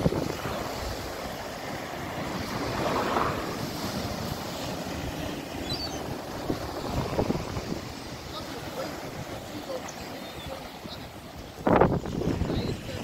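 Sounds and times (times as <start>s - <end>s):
sea waves breaking: 0.0s - 13.0s
wind buffeting microphone: 0.0s - 13.0s.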